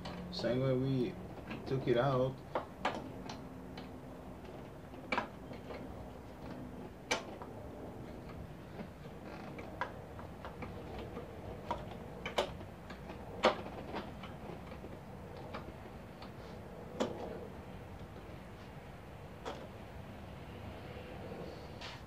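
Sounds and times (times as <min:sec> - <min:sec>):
tool clicking on metal parts: 0:00.0 - 0:18.6.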